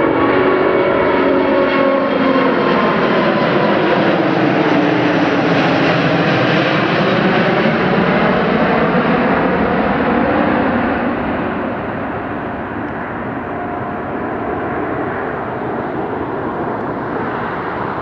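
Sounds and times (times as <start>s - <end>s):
jet engines roaring overhead: 0.0s - 18.0s.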